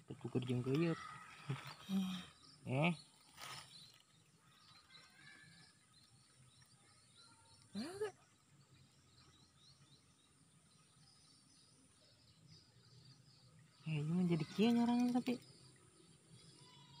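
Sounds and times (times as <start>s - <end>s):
faint chirping: 0.2s - 17.0s.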